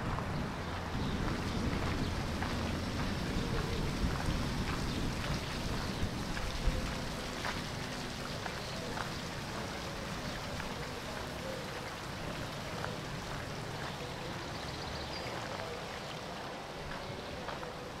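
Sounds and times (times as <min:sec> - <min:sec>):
outdoor ambient noise: 0:00.0 - 0:18.0.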